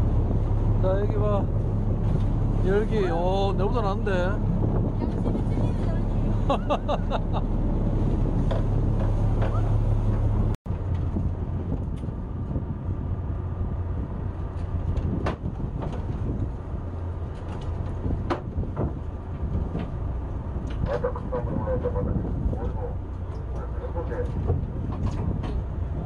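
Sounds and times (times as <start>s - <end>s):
boat engine droning: 0.0s - 26.0s
sea noise: 0.0s - 26.0s
wind: 0.0s - 26.0s.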